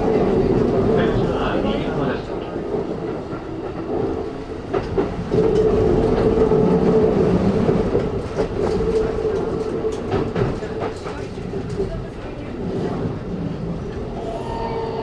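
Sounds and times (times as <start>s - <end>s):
wheels clicking over rail joints: 0.2s - 13.2s.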